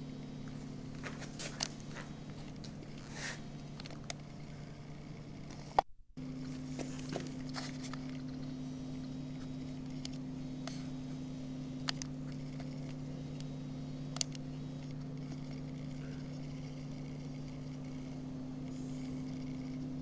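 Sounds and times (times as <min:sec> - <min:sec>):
higher hum tone: 0:00.0 - 0:20.0
low electrical hum: 0:00.0 - 0:20.0.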